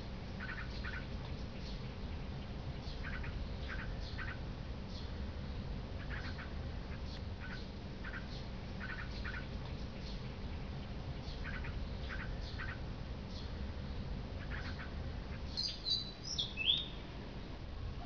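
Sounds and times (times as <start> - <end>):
birds chirping: 0.0 - 17.6
steady low rumble: 0.0 - 18.0.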